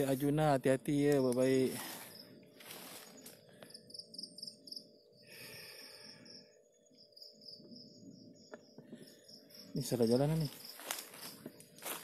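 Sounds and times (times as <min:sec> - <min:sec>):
crickets chirping: 0:00.1 - 0:12.0.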